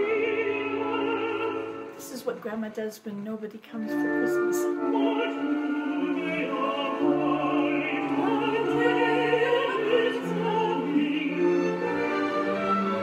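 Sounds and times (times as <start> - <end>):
orchestral accompaniment: 0.0 - 2.7, 3.7 - 13.0
opera singer with vibrato: 0.0 - 13.0.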